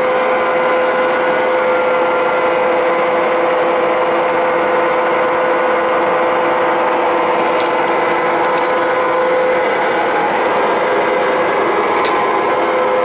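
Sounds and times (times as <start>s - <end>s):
lathe whining and humming: 0.0s - 13.0s.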